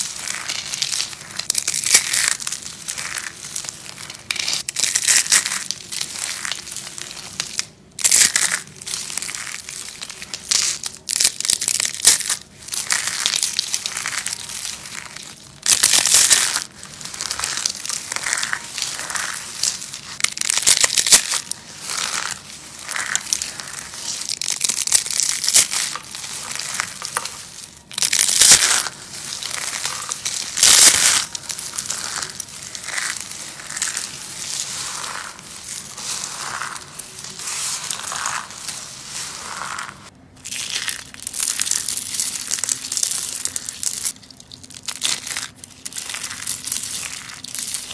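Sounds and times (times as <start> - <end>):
soap crunching: 0.0 - 47.9.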